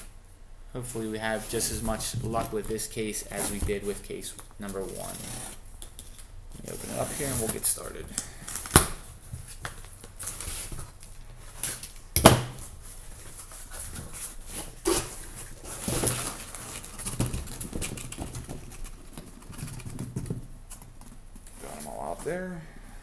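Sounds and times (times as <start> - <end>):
cardboard rustling and scraping: 1.2 - 5.6, 6.5 - 12.0, 12.6 - 22.4.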